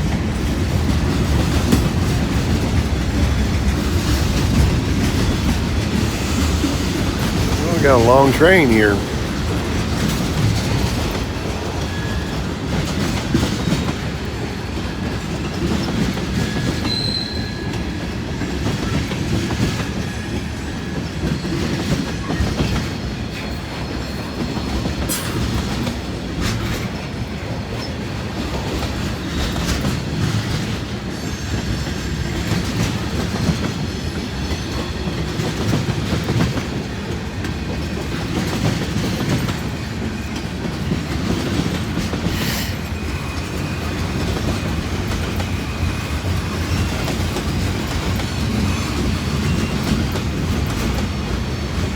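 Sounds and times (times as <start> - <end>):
freight train rolling past: 0.0 - 51.9.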